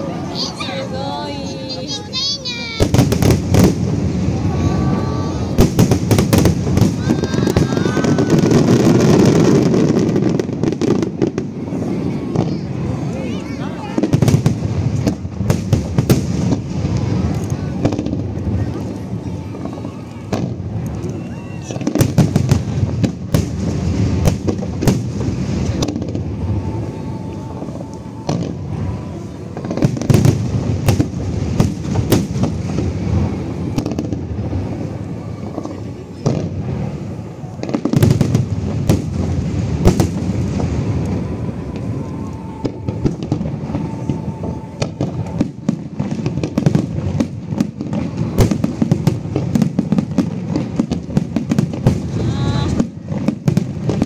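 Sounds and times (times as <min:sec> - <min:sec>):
fireworks booming bursts: 0:00.0 - 0:54.0
fireworks crackling: 0:00.0 - 0:54.0.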